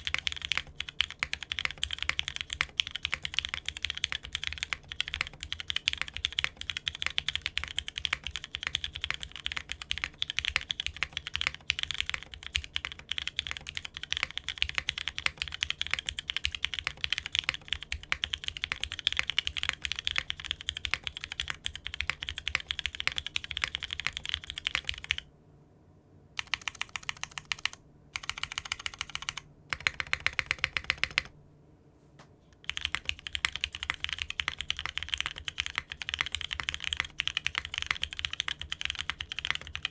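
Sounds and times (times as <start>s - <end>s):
typing on a mechanical keyboard: 0.0s - 25.3s, 26.4s - 31.4s, 32.6s - 39.9s.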